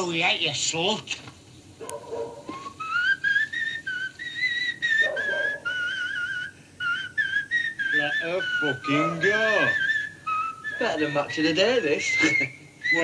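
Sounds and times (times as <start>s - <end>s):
person whistling a tune: 2.5s - 13.0s.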